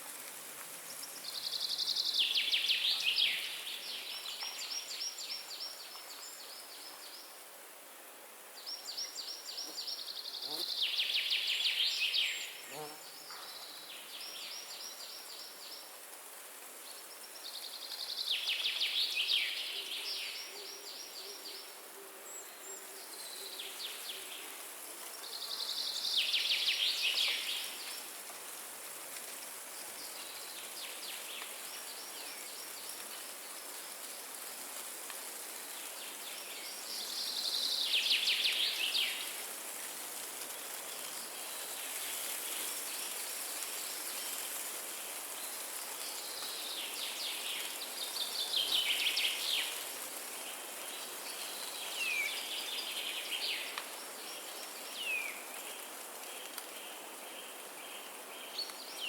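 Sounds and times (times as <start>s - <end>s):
wind in trees: 0.0s - 59.0s.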